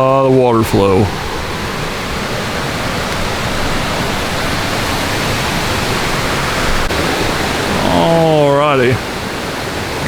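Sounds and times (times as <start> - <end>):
creek cascade rushing: 0.0 - 10.0.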